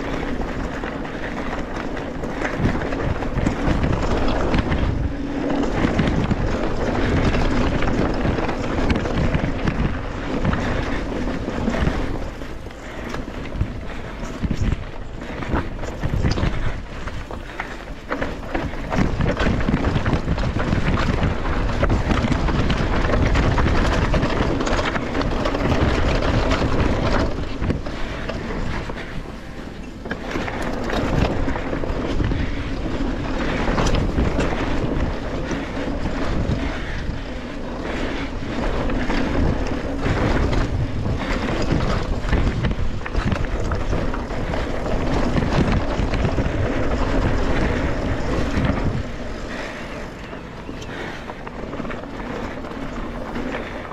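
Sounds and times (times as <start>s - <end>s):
bike rattling: 0.0s - 53.9s
tyres rolling over rock: 0.0s - 53.9s
wind buffeting microphone: 0.0s - 53.9s.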